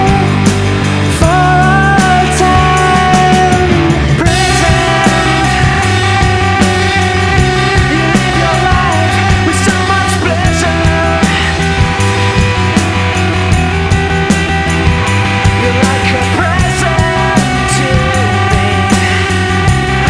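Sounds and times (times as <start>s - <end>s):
held bending melody line: 0.0s - 20.0s
rock band playing: 0.0s - 20.0s.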